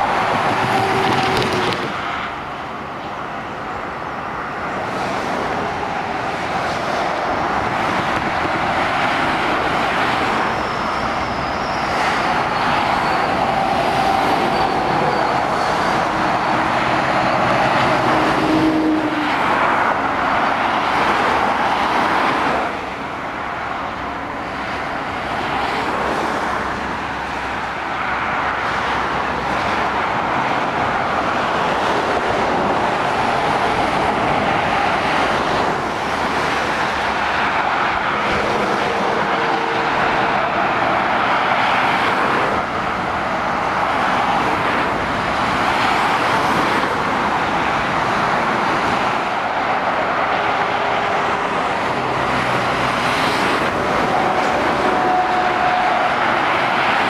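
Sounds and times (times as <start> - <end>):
motorway traffic passing: 0.0 - 57.0.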